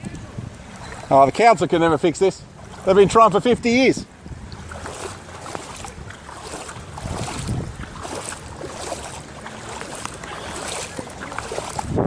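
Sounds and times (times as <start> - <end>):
wading through water: 0.0 - 12.0.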